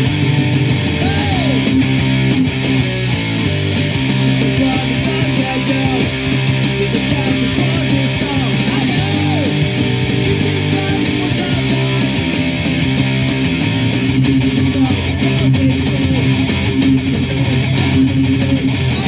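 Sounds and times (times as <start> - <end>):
electric guitar strumming chords: 0.0 - 19.0
punk rock music: 0.0 - 19.0.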